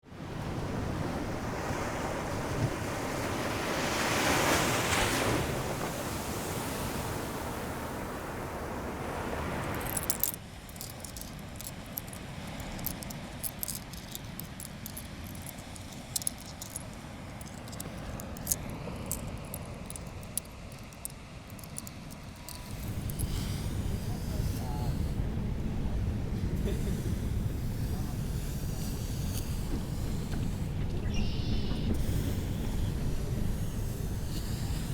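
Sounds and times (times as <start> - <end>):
ocean surf washing onto beach: 0.1 - 13.4, 15.1 - 34.9.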